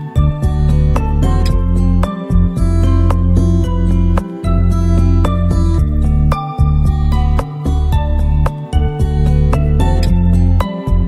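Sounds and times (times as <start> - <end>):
plucked notes: 0.0 - 11.0
steady low bass: 0.0 - 11.0.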